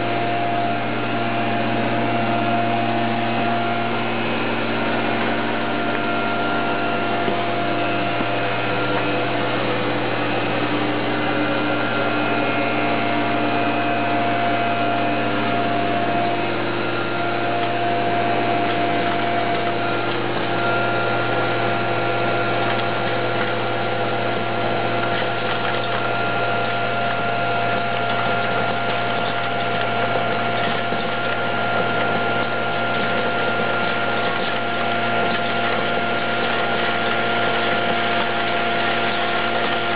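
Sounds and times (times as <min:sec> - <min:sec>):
popcorn machine blower whirr: 0:00.0 - 0:39.9
whining tones: 0:00.0 - 0:39.9.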